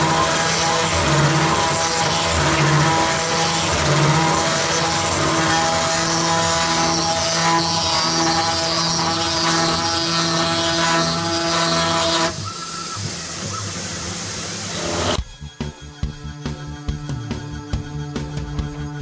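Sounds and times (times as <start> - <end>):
spindle whining while drilling metal: 0.0 - 19.0.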